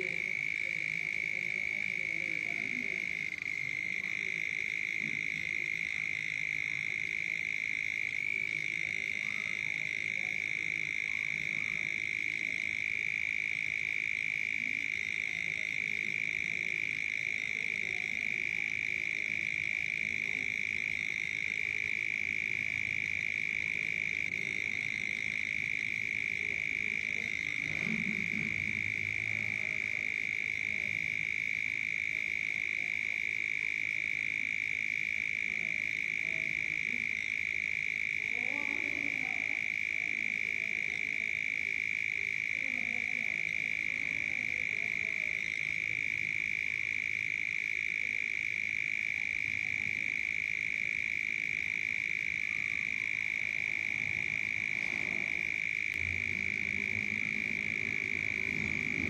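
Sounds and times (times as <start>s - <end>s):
frogs croaking: 0.0s - 59.0s
high-pitched frog trill: 0.0s - 59.0s.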